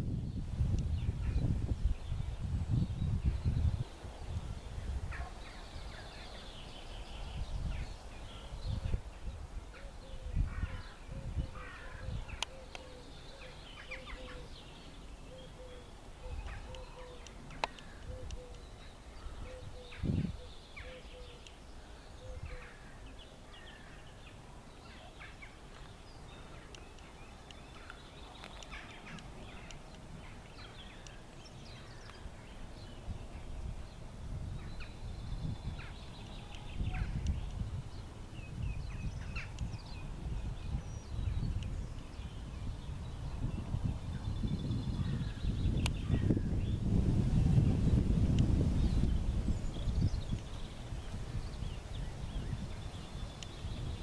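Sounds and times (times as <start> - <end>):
birds chirping and warbling: 0.0 - 54.0
wind rumbling on microphone: 0.0 - 54.0.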